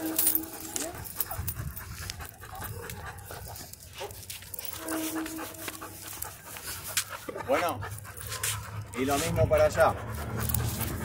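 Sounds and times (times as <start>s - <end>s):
dogs panting: 0.0s - 11.0s.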